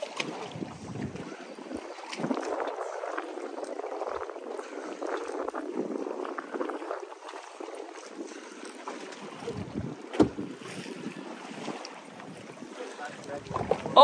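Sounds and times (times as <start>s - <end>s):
water splashing against boat: 0.0s - 14.0s.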